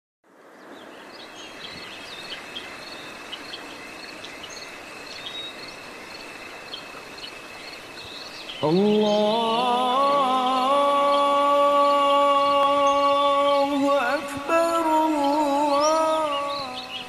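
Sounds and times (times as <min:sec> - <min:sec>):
bird chirps: 0:00.6 - 0:17.0
high insect trill: 0:01.1 - 0:17.0.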